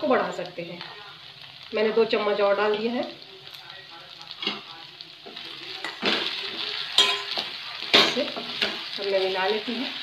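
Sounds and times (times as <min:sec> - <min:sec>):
food sizzling in pan: 0:00.0 - 0:10.0.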